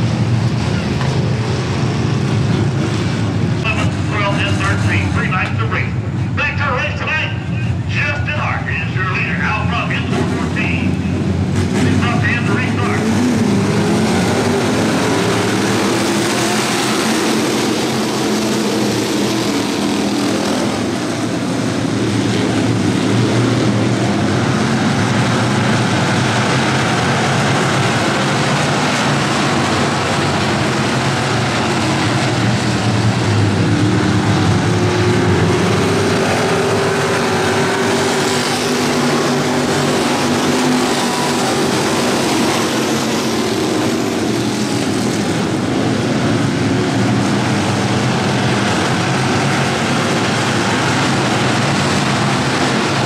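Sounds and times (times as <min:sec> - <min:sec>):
several race car engines running: 0:00.0 - 0:53.0.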